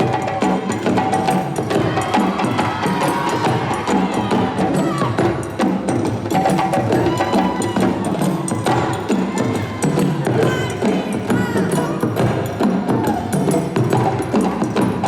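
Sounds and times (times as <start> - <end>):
percussion band drumming: 0.0 - 15.0.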